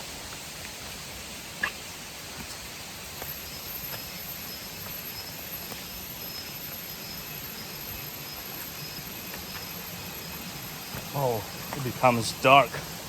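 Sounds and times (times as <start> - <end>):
insects chirping: 0.0 - 13.0
steady hiss: 0.0 - 13.0.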